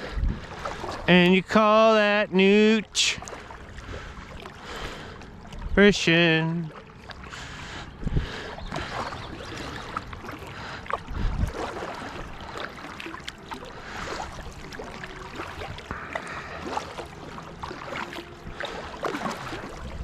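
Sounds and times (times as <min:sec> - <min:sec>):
water lapping around boat: 0:00.0 - 0:20.0.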